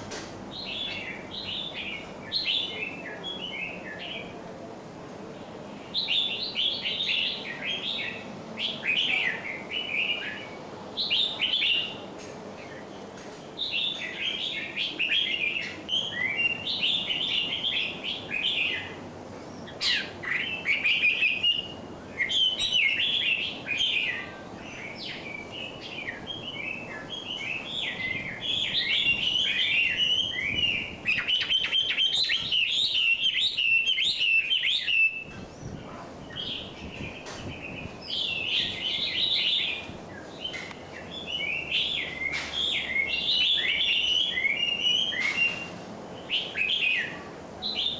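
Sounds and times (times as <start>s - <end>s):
small songbirds twittering: 0.5s - 4.3s, 5.8s - 47.9s.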